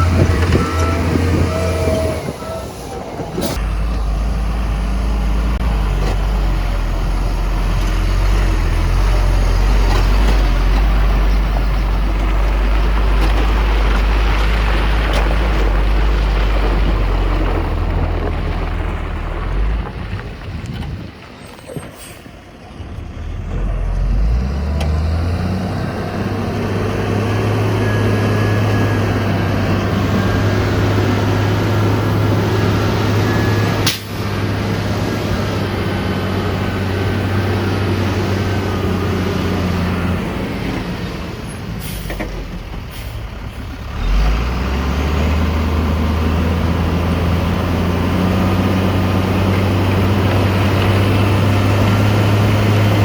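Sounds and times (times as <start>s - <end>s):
heavy diesel engine running: 0.0s - 21.2s, 22.3s - 53.0s.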